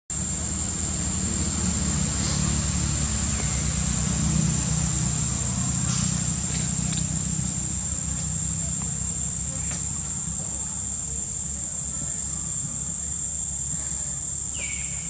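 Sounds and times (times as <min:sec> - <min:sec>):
high-pitched insect drone: 0:00.1 - 0:15.0
low mechanical rumble: 0:00.1 - 0:15.0.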